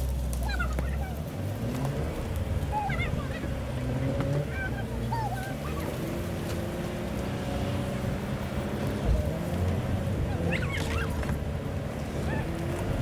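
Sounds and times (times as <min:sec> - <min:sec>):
truck engine running at low revs: 0:00.0 - 0:13.0.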